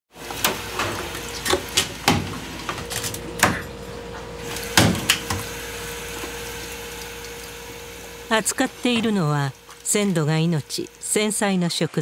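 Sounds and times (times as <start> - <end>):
faint steady hum: 0.3 - 12.0.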